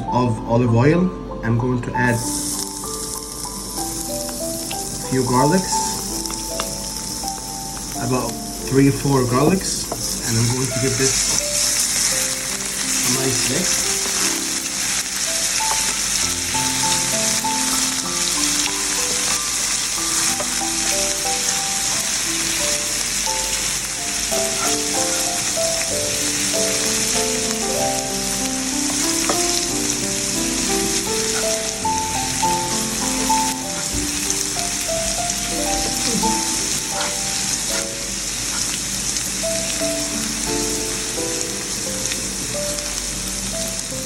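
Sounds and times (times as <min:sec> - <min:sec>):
background music: 0:00.0 - 0:38.2
garlic sizzling in oil: 0:02.0 - 0:44.0.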